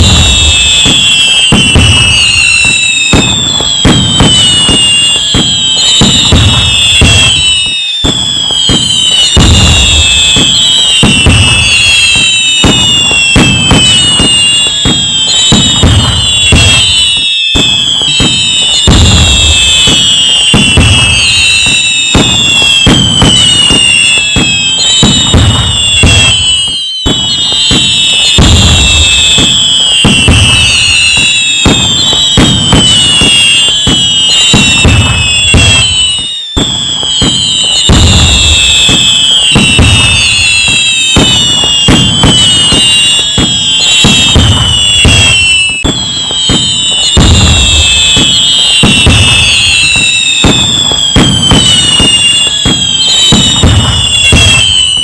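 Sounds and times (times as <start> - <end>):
fireworks crackling: 0.0 - 55.0
fireworks low booms: 0.0 - 55.0
fireworks whistling: 0.0 - 55.0.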